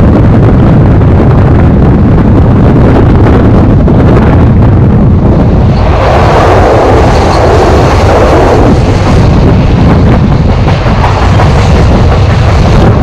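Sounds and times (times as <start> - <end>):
train coaches rumbling on track: 0.0 - 13.0
wind buffeting microphone: 0.0 - 13.0.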